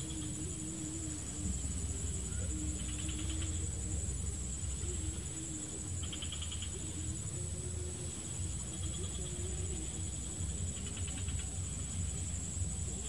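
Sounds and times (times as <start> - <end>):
faint wavering low hum: 0.0 - 13.0
high-pitched insect drone: 0.0 - 13.0.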